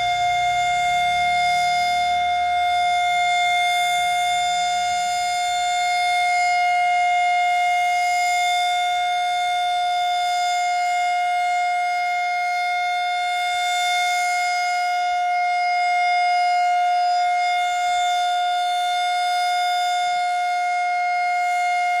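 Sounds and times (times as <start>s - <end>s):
warning siren steady tone: 0.0s - 22.0s.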